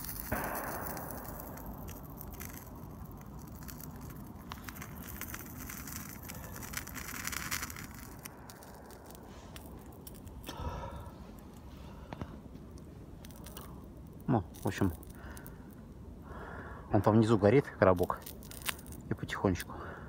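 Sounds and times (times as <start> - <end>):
low rumble: 0.0 - 17.2
campfire crackling and popping: 0.0 - 20.0.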